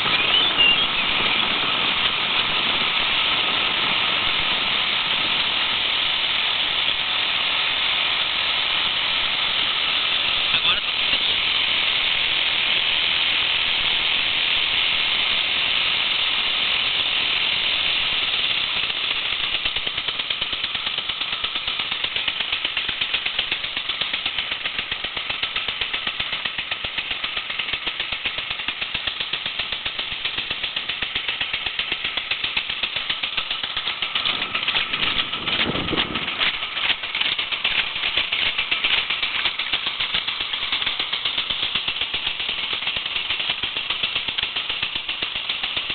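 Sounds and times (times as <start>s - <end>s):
boat hiss: 0.0s - 45.9s
fast even rattle: 0.0s - 45.9s.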